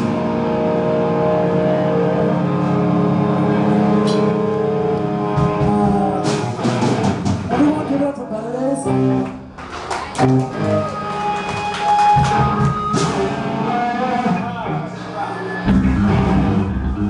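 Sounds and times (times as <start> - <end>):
loud electric guitar: 0.0 - 17.0.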